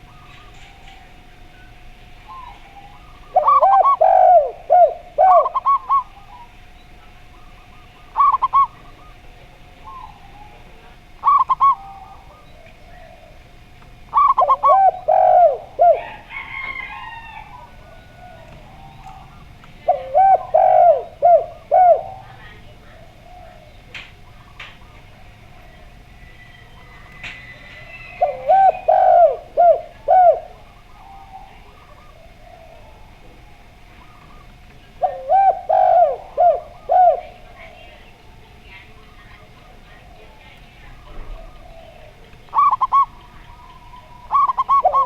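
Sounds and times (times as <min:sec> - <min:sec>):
dove cooing: 0:00.0 - 0:45.0
faint steady hum: 0:00.0 - 0:45.0.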